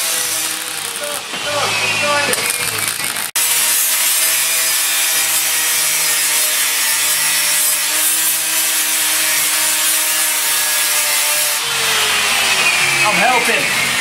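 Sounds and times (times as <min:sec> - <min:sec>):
angle grinder on steel: 0:00.0 - 0:14.0.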